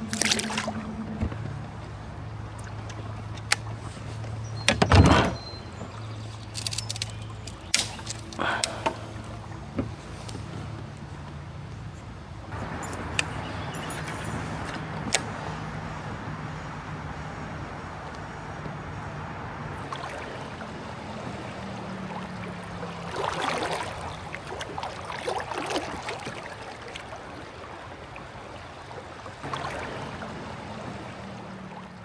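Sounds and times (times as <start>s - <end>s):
river water flowing: 0.0s - 32.0s
water splashes: 0.0s - 32.0s.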